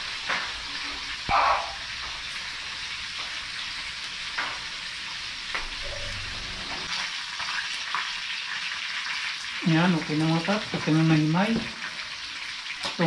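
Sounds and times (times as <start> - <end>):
fish sizzling in hot oil: 0.0 - 13.0
oil crackles: 0.0 - 13.0.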